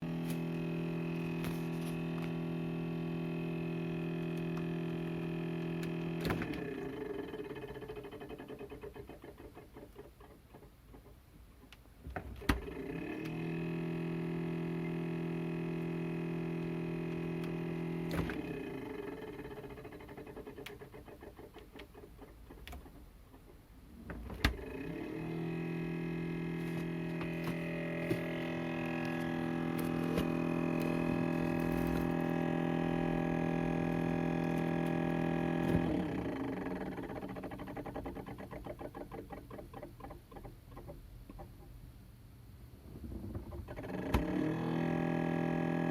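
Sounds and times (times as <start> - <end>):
refrigerator compressor humming: 0.0 - 45.9.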